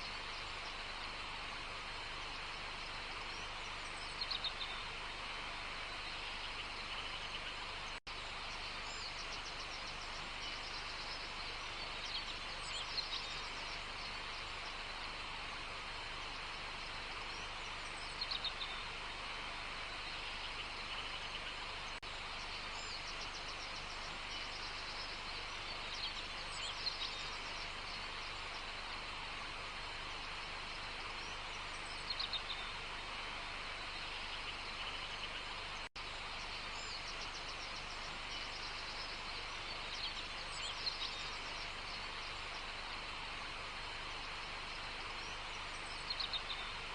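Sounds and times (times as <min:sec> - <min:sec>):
outdoor ambience hiss: 0:00.0 - 0:46.9.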